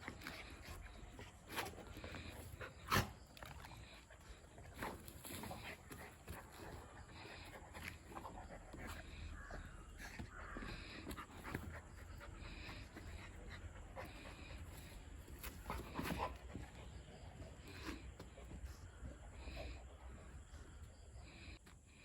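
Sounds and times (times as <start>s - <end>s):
dog panting: 0.0s - 21.7s.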